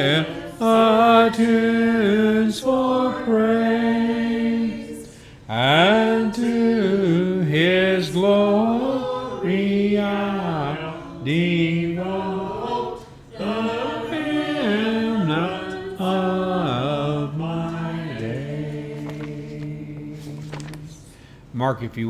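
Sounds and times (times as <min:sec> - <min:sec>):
congregation singing a hymn: 0:00.0 - 0:21.1.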